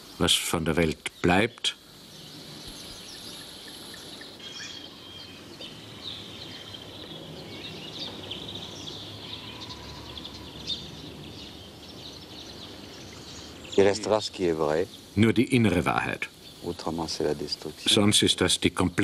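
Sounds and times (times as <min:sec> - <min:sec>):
bird chirps: 0:00.0 - 0:19.0
high steady insect-like tone: 0:00.0 - 0:19.0
insect calls: 0:00.0 - 0:19.0
steady background hiss: 0:00.0 - 0:19.0.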